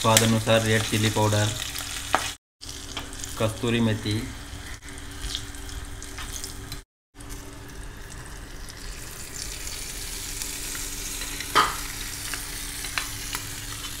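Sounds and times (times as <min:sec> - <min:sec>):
spices sizzling in hot oil: 0:00.0 - 0:14.0.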